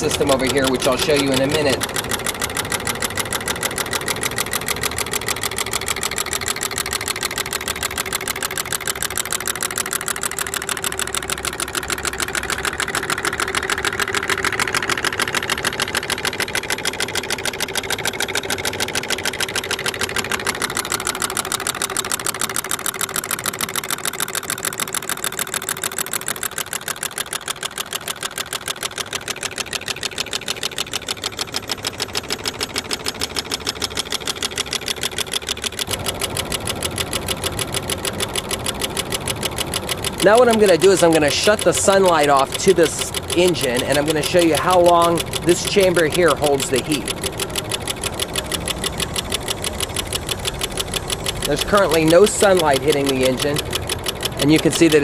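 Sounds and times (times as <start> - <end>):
stirling engine clattering: 0.0 - 55.0.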